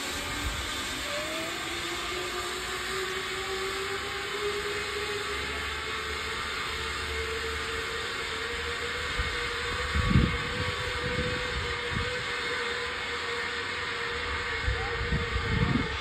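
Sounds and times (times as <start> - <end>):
zipline trolley whirring: 0.0 - 16.0.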